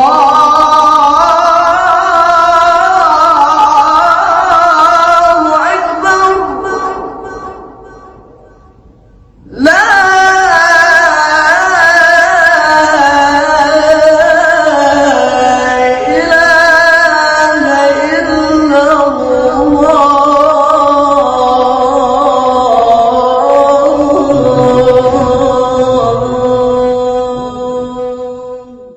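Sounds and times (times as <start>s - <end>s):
man chanting call to prayer: 0.0s - 7.8s, 9.4s - 28.9s.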